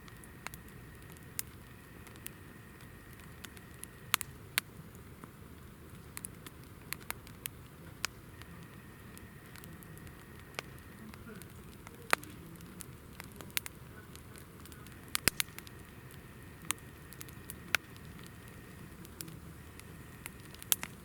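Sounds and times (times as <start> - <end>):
campfire crackling and popping: 0.0 - 21.0
low steady fire rush: 0.0 - 21.0.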